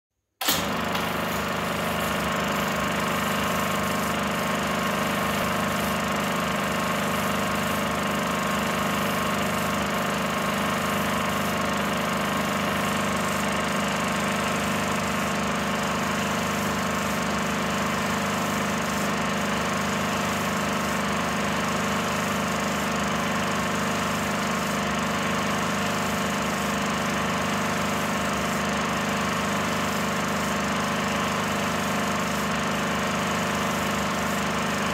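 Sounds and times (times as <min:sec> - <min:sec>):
film projector whirring: 0:00.4 - 0:34.9.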